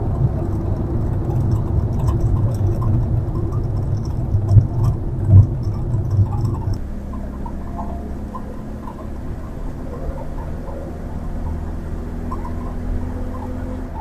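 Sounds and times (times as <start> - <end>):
low bumps: 0.0 - 14.0
road and engine rumble: 0.0 - 14.0.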